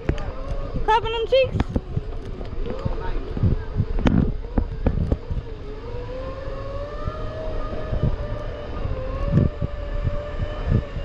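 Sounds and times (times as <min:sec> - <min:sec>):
electric motor whining: 0:00.0 - 0:11.0
wind buffeting microphone: 0:00.0 - 0:11.0.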